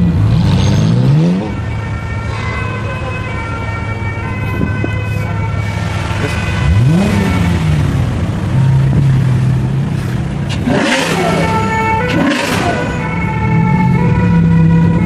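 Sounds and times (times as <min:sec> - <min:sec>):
car engine revving and idling: 0:00.0 - 0:02.2, 0:04.4 - 0:15.0.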